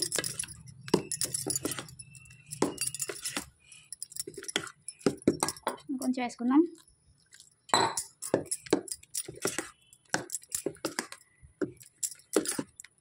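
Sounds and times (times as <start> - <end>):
spoon clinking and scraping bowl: 0.0 - 5.9, 7.3 - 13.0.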